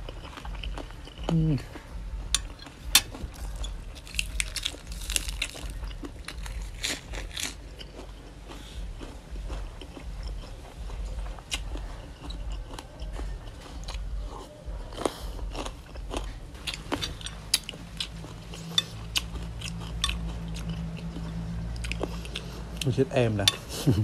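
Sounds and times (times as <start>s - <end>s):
wet crunching chewing: 2.3s - 23.7s.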